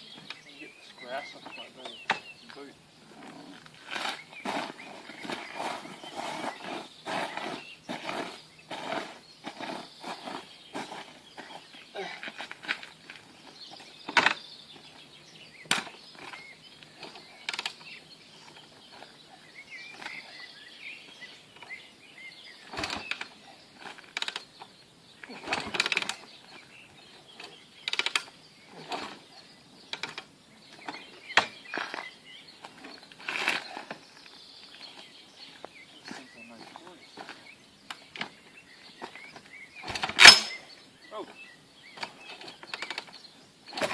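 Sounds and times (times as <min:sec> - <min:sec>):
faint birdsong chirping: 0:00.0 - 0:43.9.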